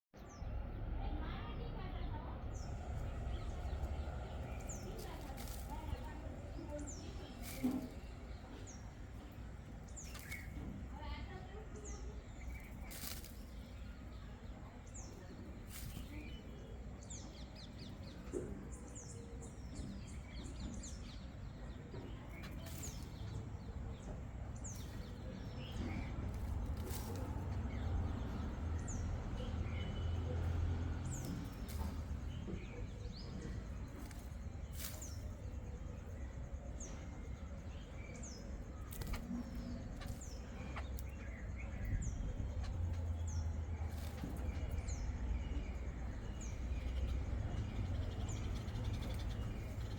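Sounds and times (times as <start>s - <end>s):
small birds chirping: 0.0s - 49.9s
steady low rumble: 0.2s - 49.9s.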